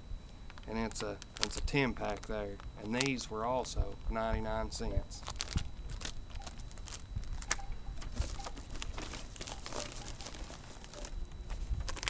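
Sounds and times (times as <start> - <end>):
plastic bag crinkling: 0.5 - 3.8, 5.1 - 12.0.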